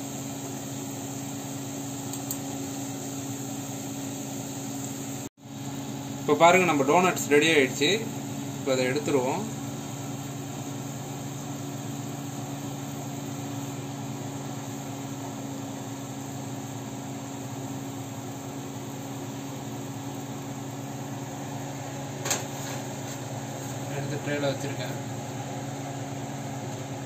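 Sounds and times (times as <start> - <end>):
kitchen fan humming: 0.0 - 27.0.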